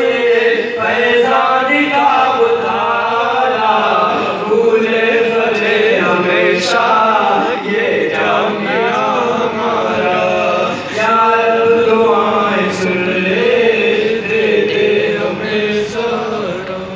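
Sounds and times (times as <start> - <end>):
man singing into a microphone: 0.0 - 16.9.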